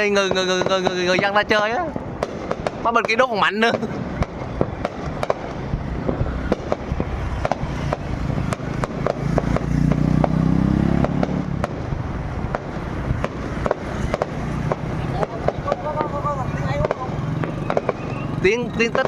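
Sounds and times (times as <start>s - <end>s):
fireworks bangs: 0.0s - 19.0s
fireworks popping and crackling: 0.0s - 19.0s
vehicle engine passing: 0.0s - 19.0s.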